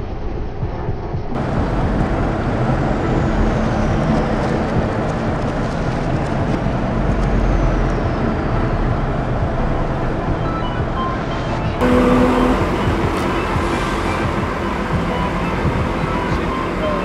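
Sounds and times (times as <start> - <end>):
road roller engine running: 1.4 - 11.0, 11.8 - 17.0.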